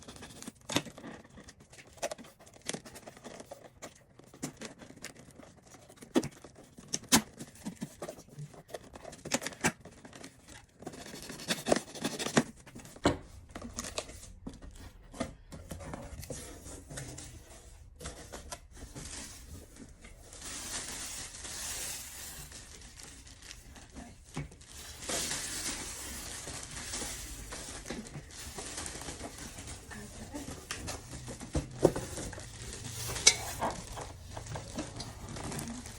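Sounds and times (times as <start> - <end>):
wrapping tearing and crinkling: 0.0 - 12.6, 17.8 - 35.9.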